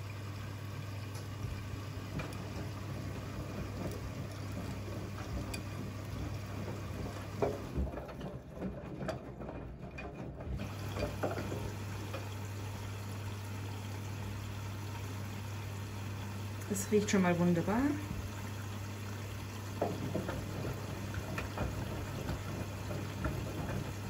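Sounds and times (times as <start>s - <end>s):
washing machine hum: 0.0s - 24.0s
washing machine water sloshing: 0.0s - 24.0s.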